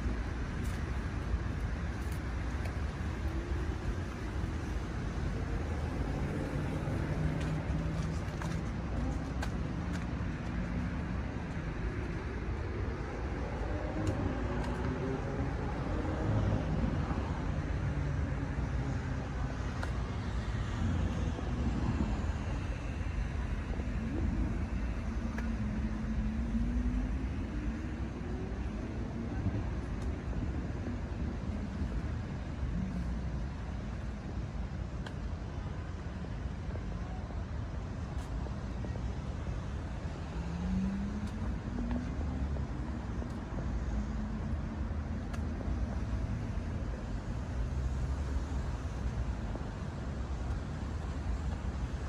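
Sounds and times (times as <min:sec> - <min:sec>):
city traffic rumble: 0:00.0 - 0:52.0
passing vehicle engine hum: 0:01.7 - 0:34.9, 0:38.4 - 0:52.0.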